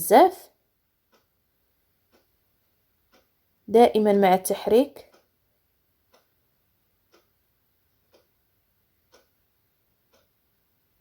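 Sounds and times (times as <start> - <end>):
clock ticking faintly: 0.8 - 11.0.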